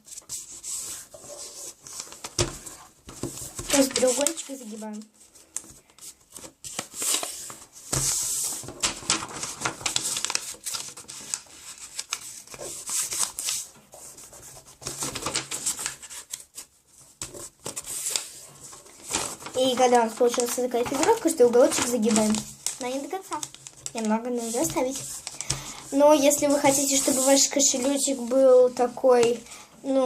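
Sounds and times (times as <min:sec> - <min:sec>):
paper being folded and creased: 0:00.0 - 0:29.4.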